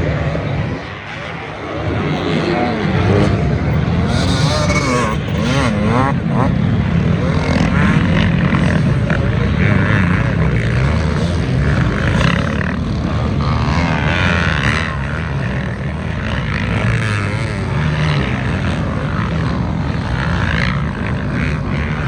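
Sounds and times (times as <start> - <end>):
dirt bike and atv engines revving: 0.0 - 22.0.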